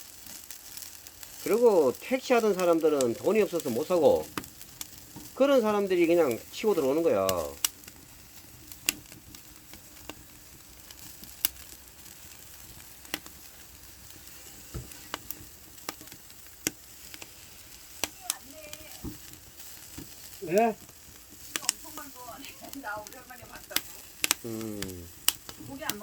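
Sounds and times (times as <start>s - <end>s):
fire popping and crackling: 0.0s - 26.0s
meat sizzling over fire: 0.0s - 26.0s.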